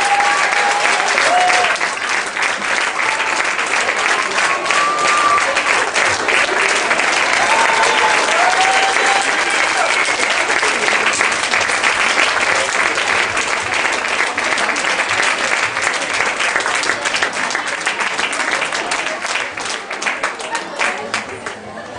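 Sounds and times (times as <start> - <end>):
audience applauding: 0.0 - 21.9.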